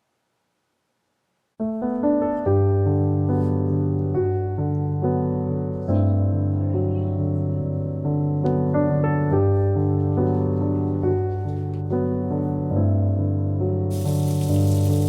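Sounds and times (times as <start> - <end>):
piano background music: 1.6 - 15.0.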